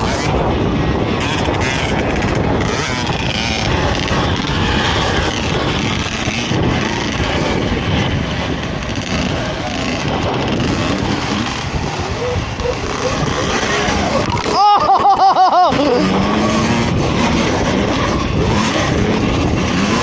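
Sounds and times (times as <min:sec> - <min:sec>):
dirt bike engine: 0:00.0 - 0:20.0
wind over microphone: 0:00.0 - 0:20.0.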